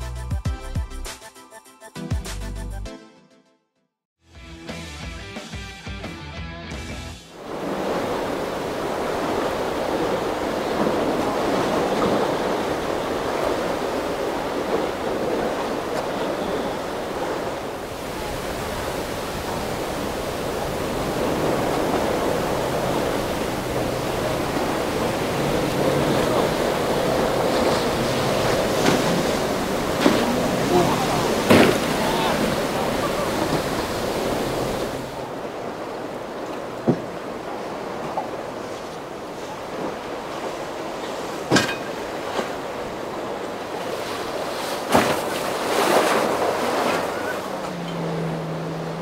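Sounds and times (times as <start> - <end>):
surf: 4.5 - 49.0
wind: 7.3 - 49.0
water slapping: 7.4 - 49.0
waves washing: 7.4 - 49.0
outboard motor droning: 7.5 - 44.8, 45.4 - 49.0.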